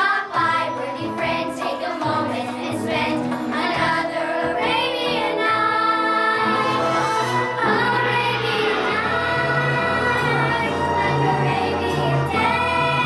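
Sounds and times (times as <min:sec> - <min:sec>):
children's chorus singing: 0:00.0 - 0:13.0
musical accompaniment: 0:00.0 - 0:13.0.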